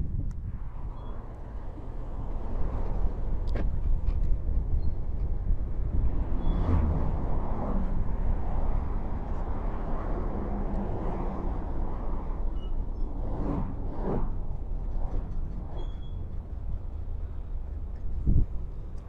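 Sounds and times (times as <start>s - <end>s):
road rumble: 0.0s - 19.0s
wind buffeting: 0.0s - 19.0s.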